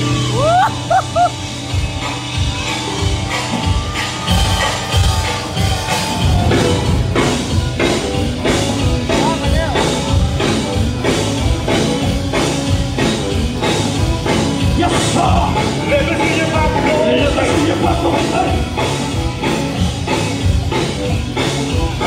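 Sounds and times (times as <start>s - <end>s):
gospel band playing: 0.0s - 22.0s.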